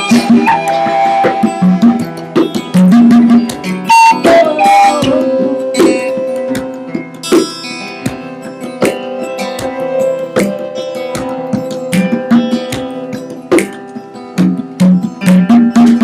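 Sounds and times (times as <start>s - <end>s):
percussive strikes: 0.0s - 16.0s
plucked guitar: 0.0s - 16.0s.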